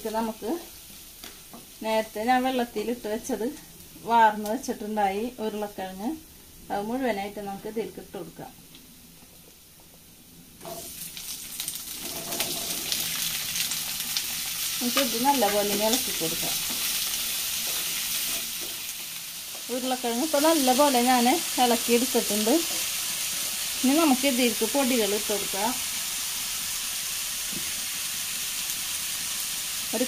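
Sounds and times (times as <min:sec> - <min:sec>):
potatoes sizzling in hot oil: 0:00.0 - 0:06.1, 0:10.6 - 0:30.0.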